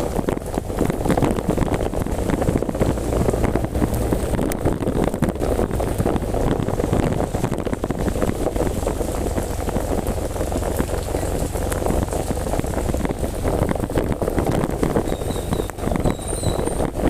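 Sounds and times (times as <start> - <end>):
heavy rain pouring: 0.0 - 17.0
wind buffeting microphone: 0.0 - 17.0.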